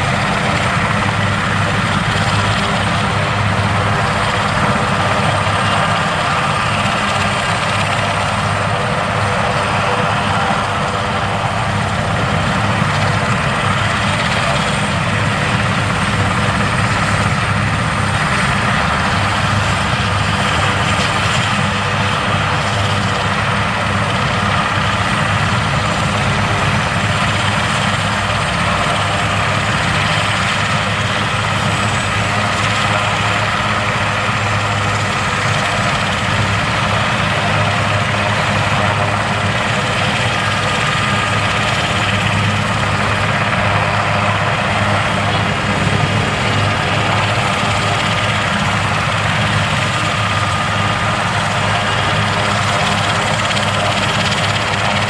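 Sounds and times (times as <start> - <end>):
helicopter engines idling drone: 0.0 - 55.0
high turbine whine: 0.0 - 55.0.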